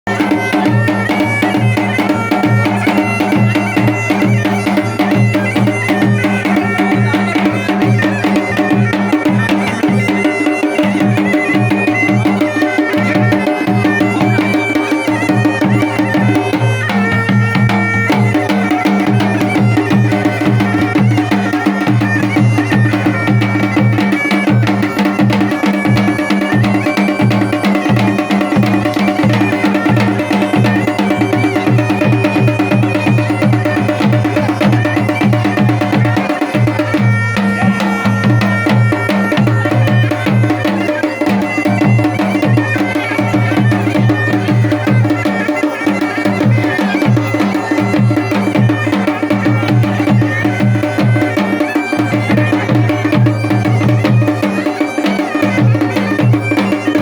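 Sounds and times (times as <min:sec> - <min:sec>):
bagpipe melody over drone: 0:00.1 - 0:57.0
drums beating steady rhythm: 0:00.1 - 0:57.0.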